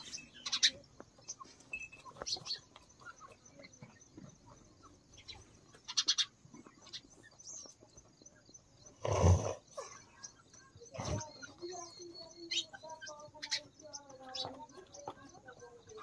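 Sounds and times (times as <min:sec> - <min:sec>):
high bird chirps: 0:00.0 - 0:09.0, 0:09.6 - 0:16.0.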